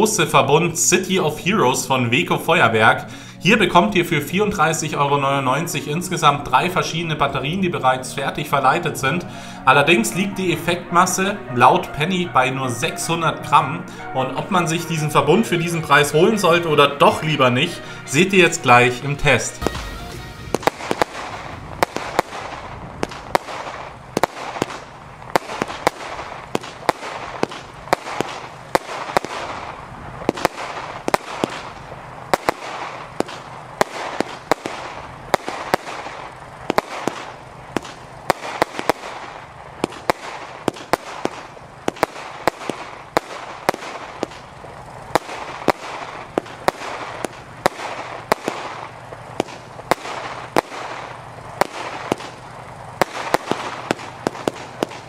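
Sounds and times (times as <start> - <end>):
crackling hiss: 0.0 - 55.0
fireworks banging: 0.0 - 55.0.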